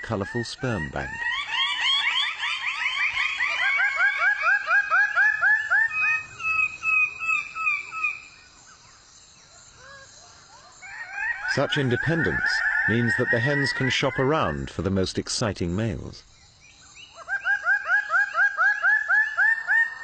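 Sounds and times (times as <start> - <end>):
birds calling rising notes: 0.0 - 20.0.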